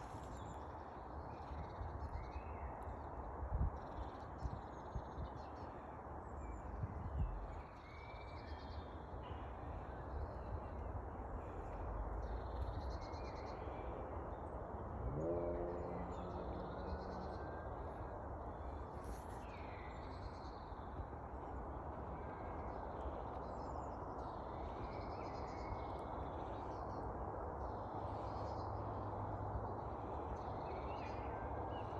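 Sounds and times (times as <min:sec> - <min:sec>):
songbirds singing: 0:00.0 - 0:31.9.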